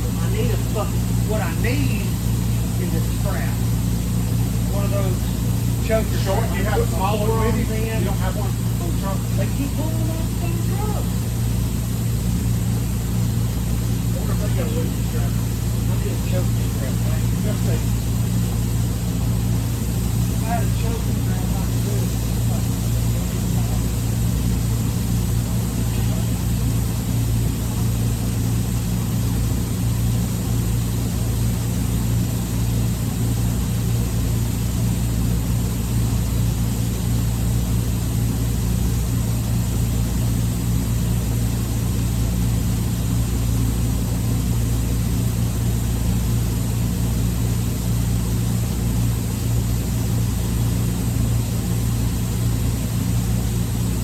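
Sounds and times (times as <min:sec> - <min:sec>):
low machinery drone: 0:00.0 - 0:54.0.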